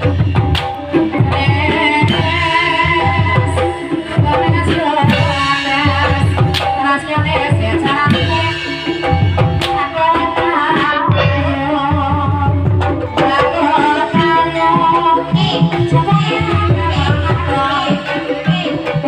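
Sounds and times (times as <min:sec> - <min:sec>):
tuned percussion: 0:00.0 - 0:10.2, 0:11.1 - 0:19.0
hand drum patterns: 0:00.0 - 0:19.0
person singing wavering melody: 0:00.7 - 0:19.0.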